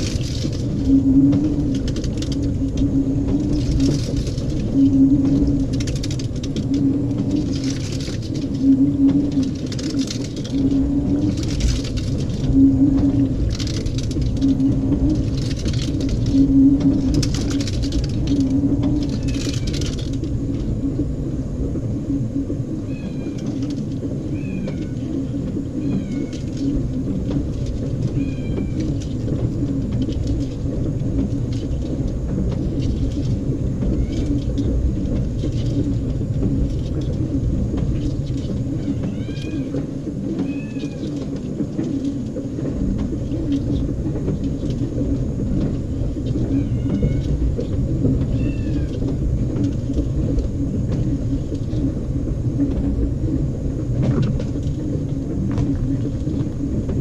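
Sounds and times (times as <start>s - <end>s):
washing machine drum rumbling: 0.0s - 57.0s.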